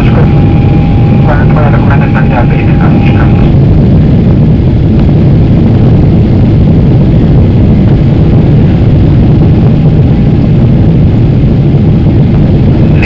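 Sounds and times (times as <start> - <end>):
jet engine cabin drone: 0.0 - 13.0.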